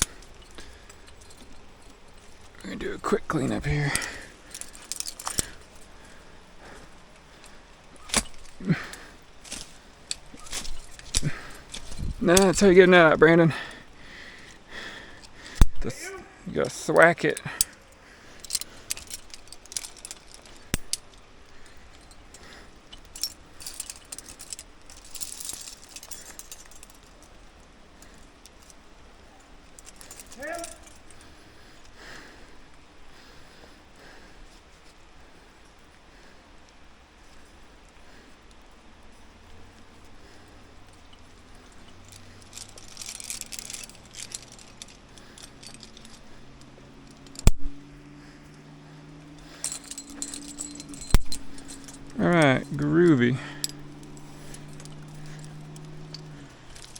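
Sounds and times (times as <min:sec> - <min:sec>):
climbing hardware clinking: 0:00.0 - 0:32.0, 0:36.6 - 0:56.9.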